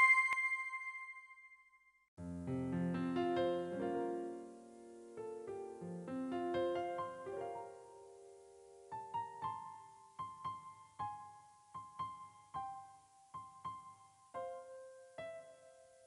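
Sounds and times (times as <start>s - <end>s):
gentle solo piano melody: 2.2s - 16.0s.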